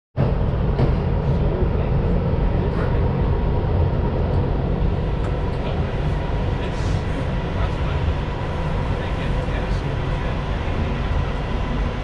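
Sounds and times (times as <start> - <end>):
rail car running: 0.2 - 12.0.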